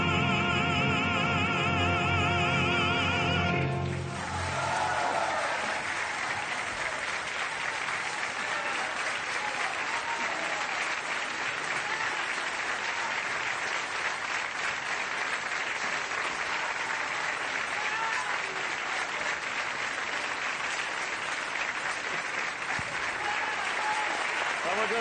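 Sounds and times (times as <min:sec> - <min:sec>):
audience applauding: 0:03.6 - 0:25.0.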